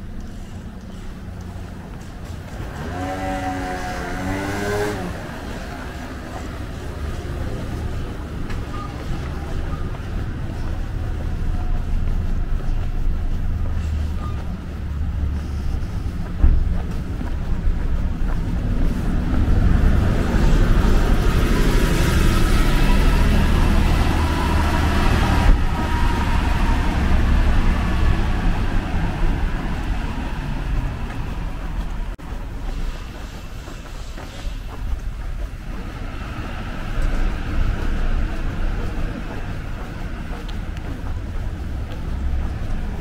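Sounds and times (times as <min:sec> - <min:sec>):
bus passing by: 0:00.0 - 0:43.0
steady low rumble: 0:05.0 - 0:43.0.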